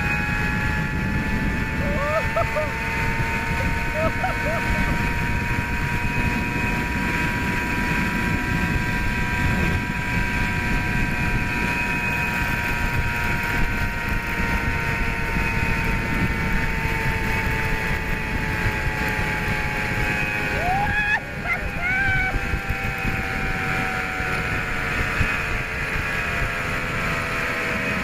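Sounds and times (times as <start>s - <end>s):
mechanical whine: 0.0s - 28.0s
wind buffeting microphone: 0.0s - 28.0s.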